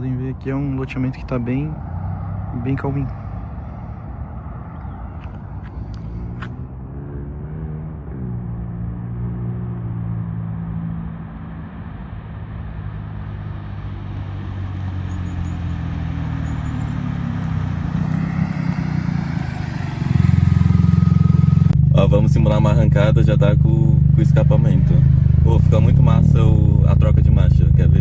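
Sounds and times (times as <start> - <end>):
car engine through sports exhaust: 1.8 - 28.0.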